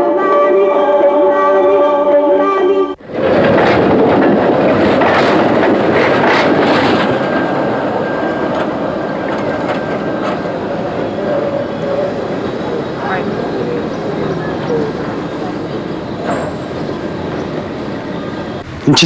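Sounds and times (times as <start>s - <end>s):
tram wheels clattering on rails: 3.0s - 19.0s.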